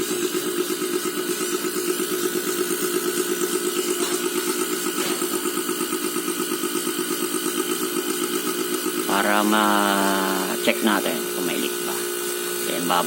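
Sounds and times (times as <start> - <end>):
air compressor pulsing hum: 0.0 - 13.0.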